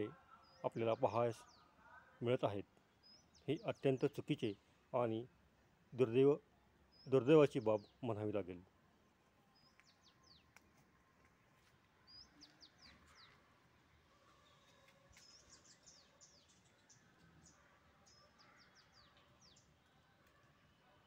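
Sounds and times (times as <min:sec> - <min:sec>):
faint bird chirping: 0:00.0 - 0:05.2, 0:06.1 - 0:21.0
faint background noise: 0:00.0 - 0:21.0.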